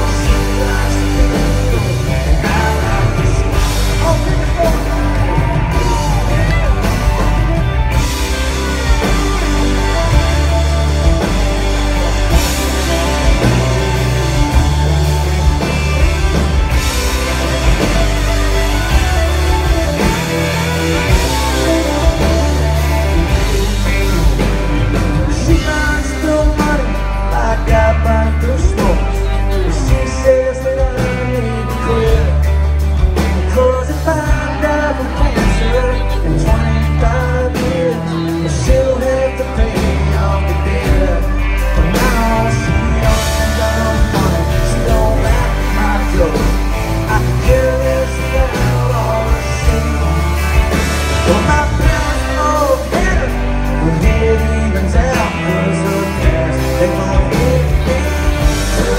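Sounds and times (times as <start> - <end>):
country-rock band playing: 0.0 - 58.9.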